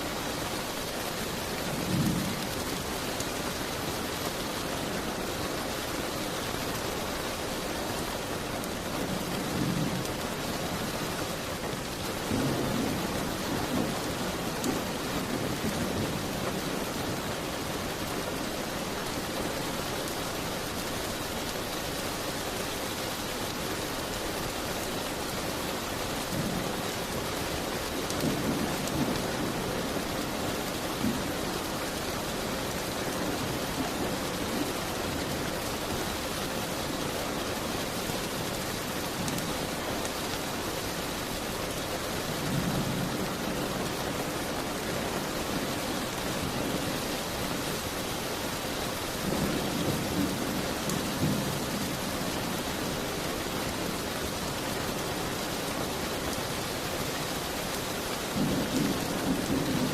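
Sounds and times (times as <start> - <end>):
rain beating on a window: 0.0 - 59.9.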